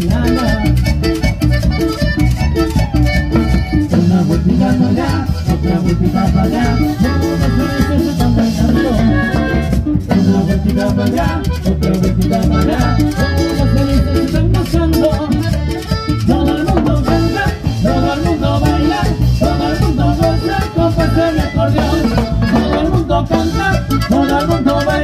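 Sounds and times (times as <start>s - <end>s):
accordion melody: 0.0s - 25.0s
acoustic guitar: 0.0s - 25.0s
electric bass: 0.0s - 25.0s.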